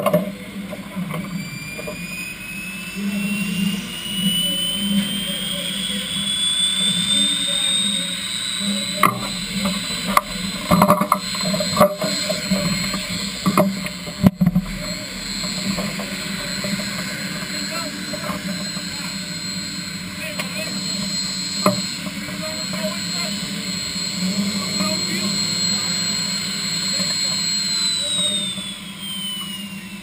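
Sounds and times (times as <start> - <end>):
high whine rising: 0.0 - 30.0.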